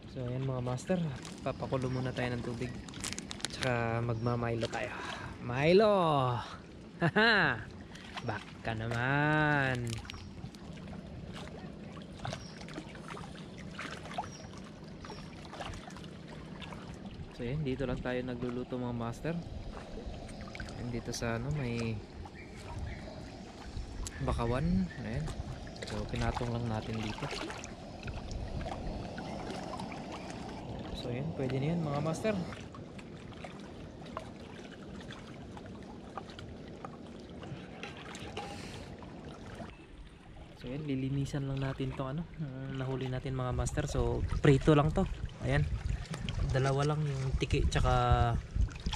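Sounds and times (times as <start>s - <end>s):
steady low hum: 0.0s - 48.9s
water lapping against a log: 0.0s - 48.9s.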